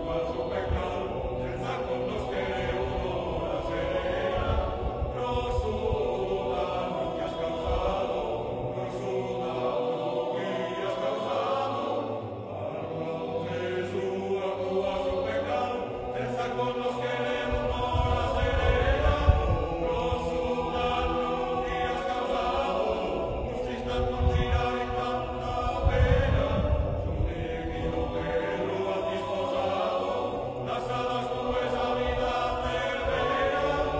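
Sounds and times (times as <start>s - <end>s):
choir singing in harmony: 0.0s - 33.9s.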